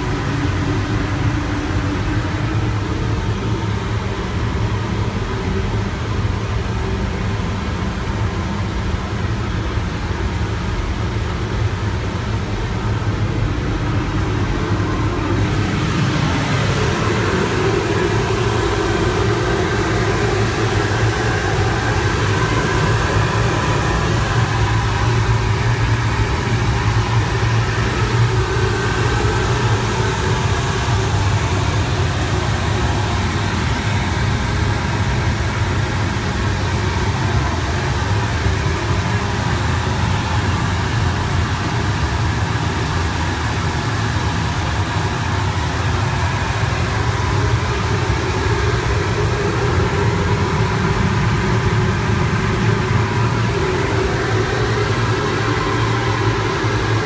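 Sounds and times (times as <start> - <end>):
deep drone: 0.0 - 57.0
water heaters humming: 0.0 - 57.0.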